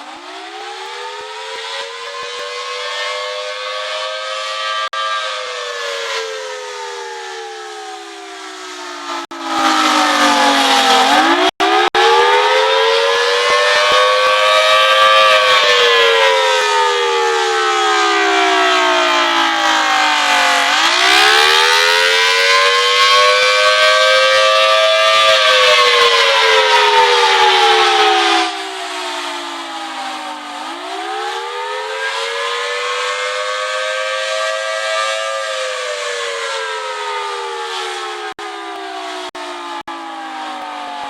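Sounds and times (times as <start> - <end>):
tornado siren wailing: 0.0 - 41.0.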